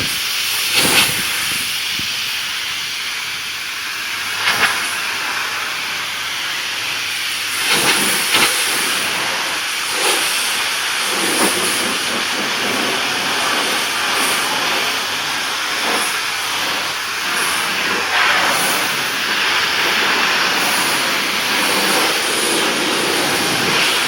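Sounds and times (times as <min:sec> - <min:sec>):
pressure washer spraying wood: 0:00.0 - 0:24.0.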